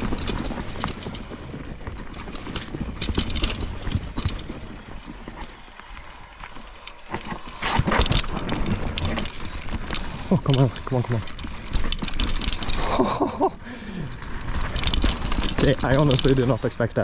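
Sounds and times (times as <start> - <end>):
bike chain and frame rattling: 0.0 - 17.0
bike tyres rolling over dirt: 0.0 - 17.0.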